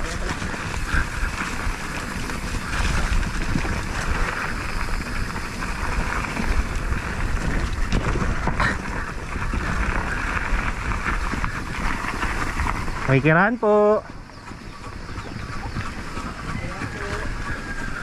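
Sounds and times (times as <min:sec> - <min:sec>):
vehicle rumble: 0:00.0 - 0:18.0
wind buffeting microphone: 0:00.0 - 0:18.0.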